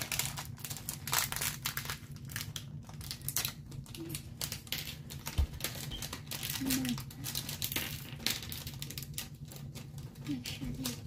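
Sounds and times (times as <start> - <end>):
plastic bags crinkling: 0.0 - 11.0
plastic pieces clicking: 0.0 - 11.0.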